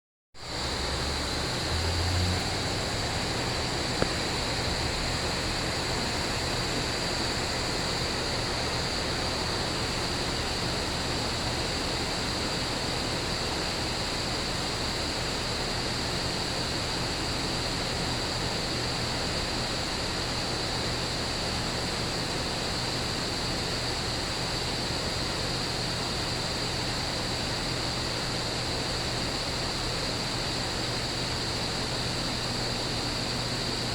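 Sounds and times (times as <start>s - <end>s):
crickets chirping: 0.4s - 33.9s
steady rain hiss: 0.4s - 33.9s.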